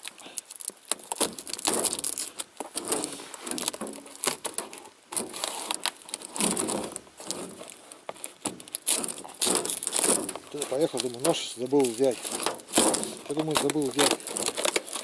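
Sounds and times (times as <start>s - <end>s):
packing tape tearing: 0.0s - 15.0s.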